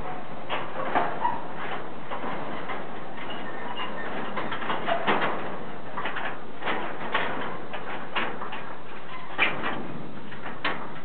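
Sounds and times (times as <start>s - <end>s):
short knocks and clatters: 0.0s - 11.0s.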